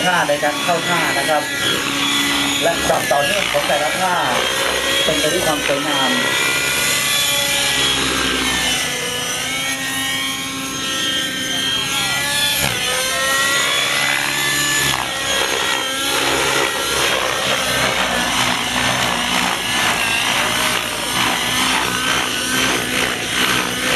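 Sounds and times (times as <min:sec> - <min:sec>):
model helicopter rotor whine: 0:00.0 - 0:23.9.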